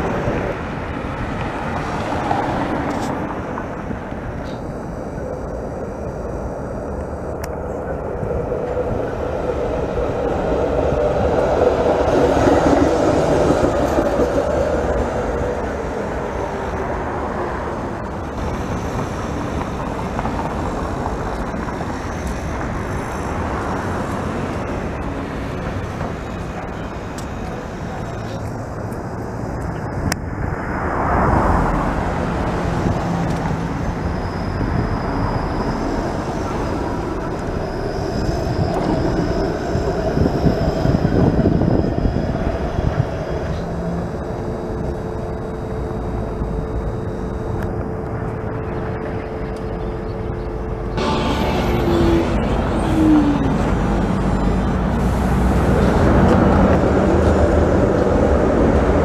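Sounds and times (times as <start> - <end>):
cars passing: 0.0 - 59.0
streetcars running on rails: 0.0 - 59.0.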